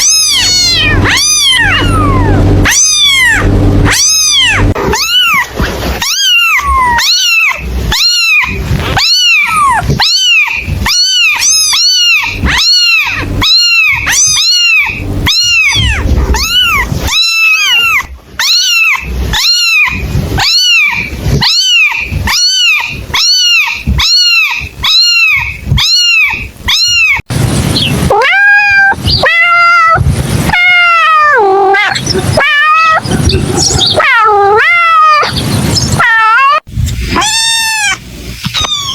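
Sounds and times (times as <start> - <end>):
kitten meowing: 0.0 - 27.2, 28.0 - 38.9.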